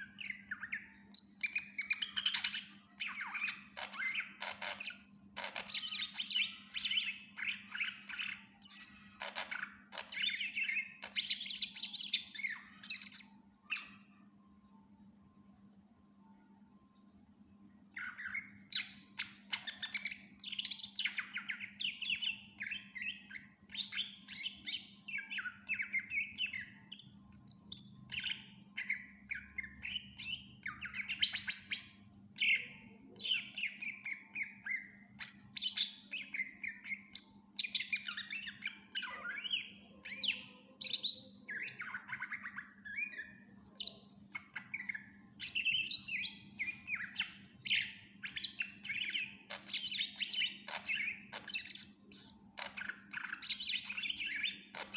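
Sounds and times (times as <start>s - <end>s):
bird singing varied song: 0.0s - 54.9s.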